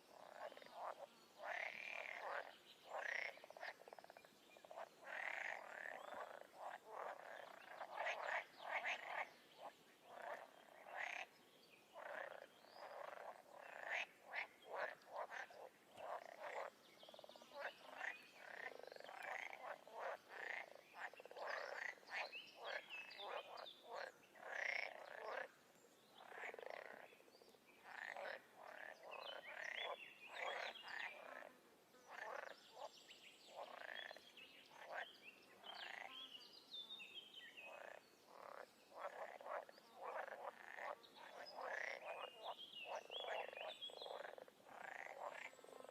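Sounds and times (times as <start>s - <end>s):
chorus of frogs croaking: 0.0s - 32.9s, 33.5s - 36.2s, 37.6s - 45.9s.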